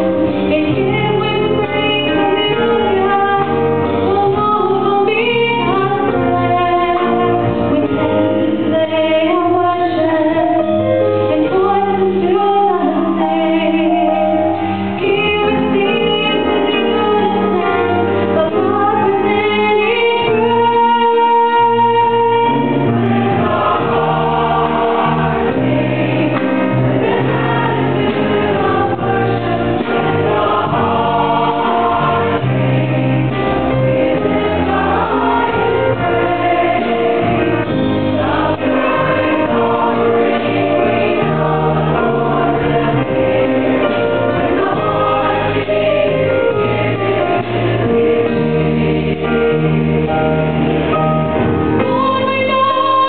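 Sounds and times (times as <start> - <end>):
choir singing gospel: 0.0 - 53.0.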